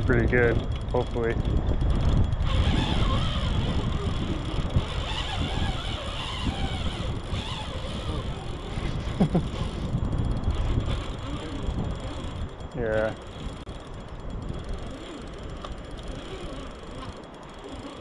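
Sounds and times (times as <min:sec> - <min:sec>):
fishing reel drag buzzing: 0:00.0 - 0:18.0.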